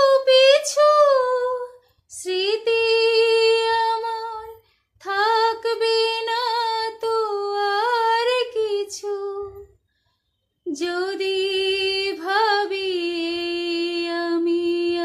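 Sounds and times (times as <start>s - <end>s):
woman singing unaccompanied: 0.0s - 9.7s, 10.7s - 15.0s.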